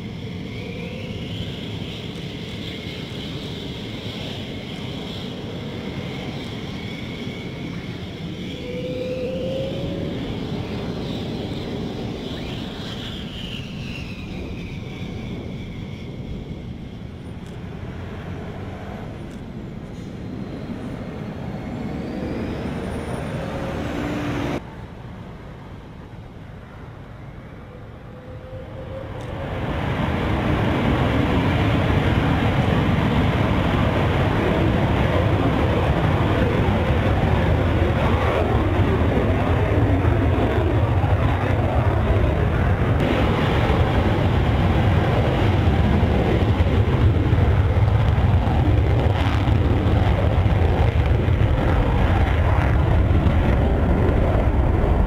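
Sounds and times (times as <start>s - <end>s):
jet engines whining and rumbling: 0.0s - 55.0s.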